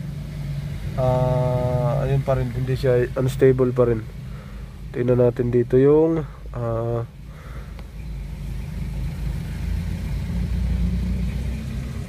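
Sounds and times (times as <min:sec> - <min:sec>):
car engine rough idle: 0:00.0 - 0:12.0.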